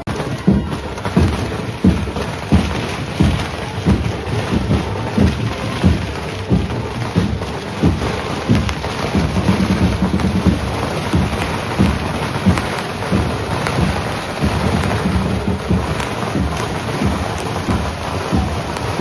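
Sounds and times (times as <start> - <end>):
firecrackers popping and banging: 0.0 - 19.0.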